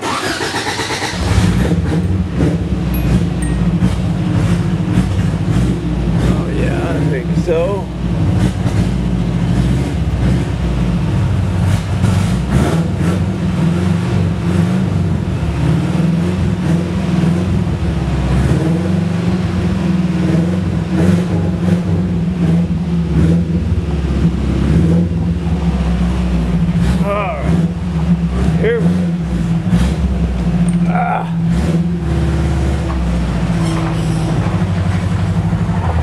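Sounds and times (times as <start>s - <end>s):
truck engine running: 0.0s - 36.0s.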